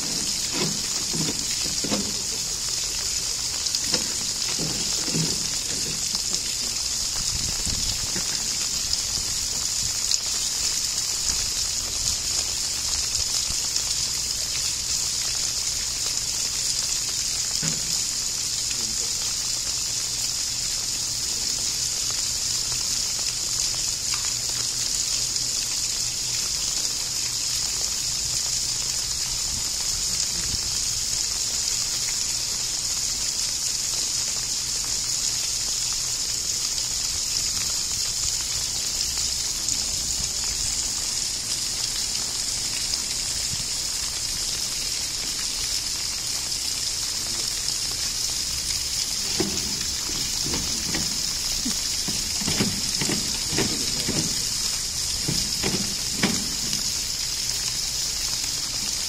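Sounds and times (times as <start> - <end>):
steady hiss of water: 0.0 - 59.0.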